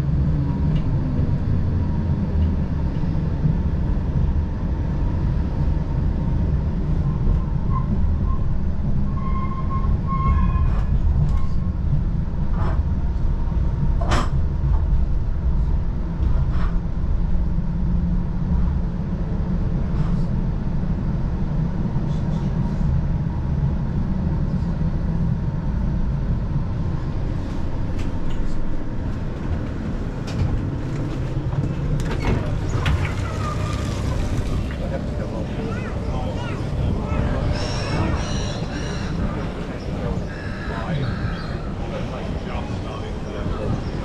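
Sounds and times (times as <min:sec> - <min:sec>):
tram low rumble: 0:00.0 - 0:44.0.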